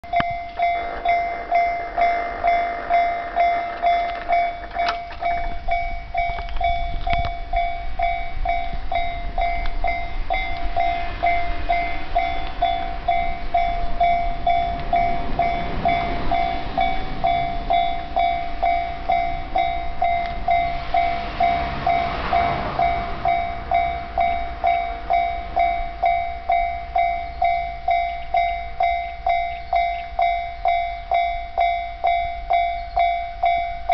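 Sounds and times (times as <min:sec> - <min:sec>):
level-crossing warning bell dinging: 0:00.0 - 0:33.9
passing train rumble: 0:00.0 - 0:33.9.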